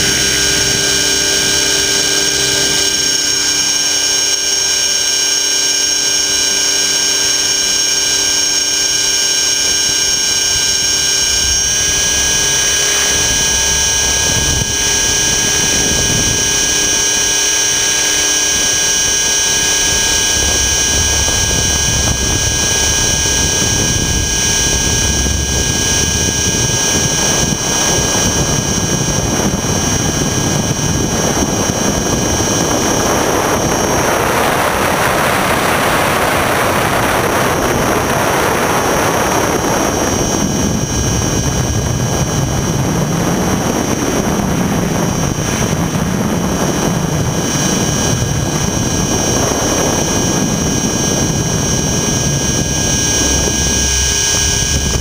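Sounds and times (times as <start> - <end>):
helicopter rotor whine: 0.0 - 55.0
rush of wind: 0.0 - 55.0.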